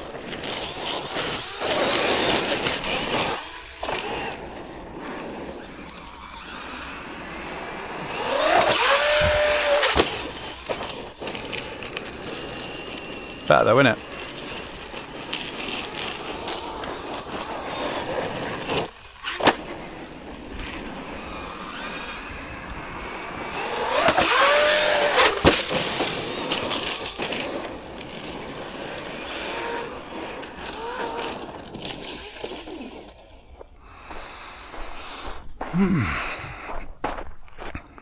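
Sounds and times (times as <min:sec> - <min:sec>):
electric motor and gear whine: 0:00.0 - 0:34.8
tyres on gravel: 0:00.0 - 0:38.0.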